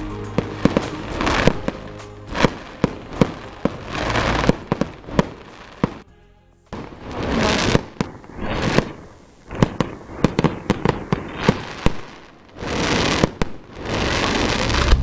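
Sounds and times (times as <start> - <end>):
fireworks banging: 0.0 - 6.1, 6.7 - 15.0
fireworks hissing crackle: 0.0 - 15.0.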